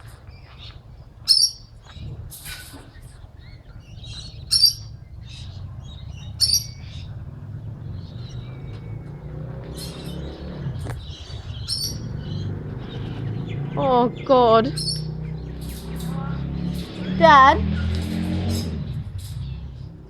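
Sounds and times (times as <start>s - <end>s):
soft bird chirps: 0.0s - 20.0s
shrill bird calls: 0.3s - 17.6s.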